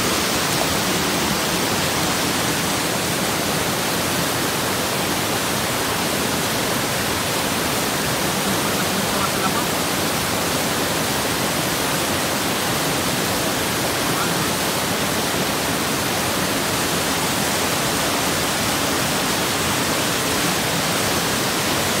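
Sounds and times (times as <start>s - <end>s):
waterfall pouring over rocks: 0.0s - 22.0s.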